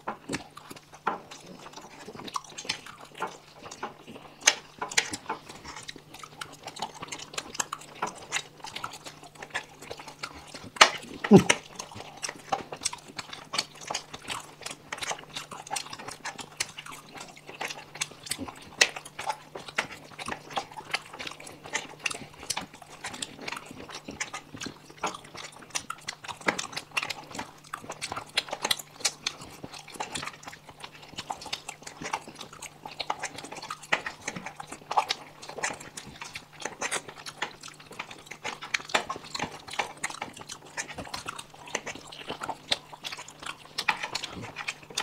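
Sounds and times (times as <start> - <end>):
faint steady hum: 0.0 - 45.0
people chewing noodles: 0.0 - 45.0.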